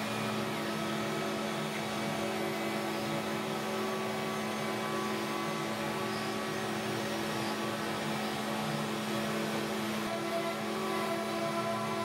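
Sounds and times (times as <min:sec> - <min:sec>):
cnc router cutting wood: 0:00.0 - 0:12.0.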